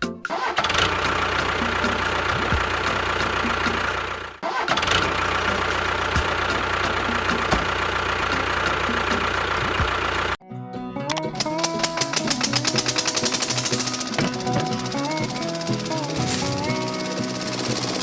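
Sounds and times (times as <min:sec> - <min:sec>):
small engine running: 0:00.5 - 0:10.4, 0:11.4 - 0:18.0.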